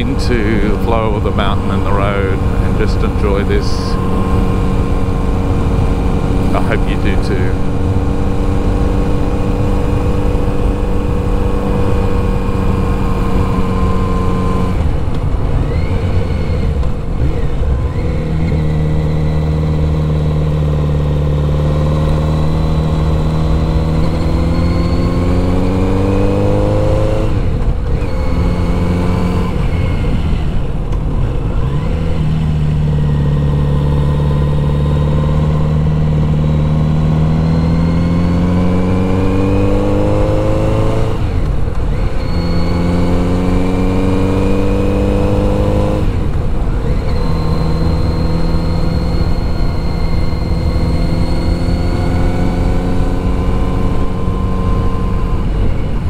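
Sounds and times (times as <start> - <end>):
motorcycle engine pulling uphill: 0.0 - 56.0.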